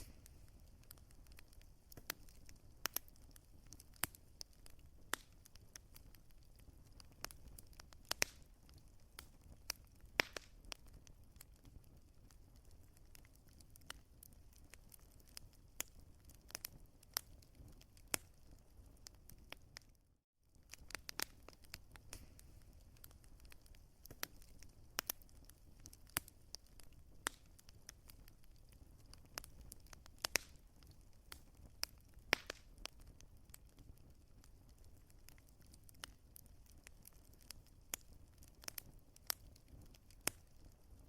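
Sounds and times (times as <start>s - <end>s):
low rumble of burning: 0.0s - 41.0s
wood fire crackling in fireplace: 0.0s - 41.0s.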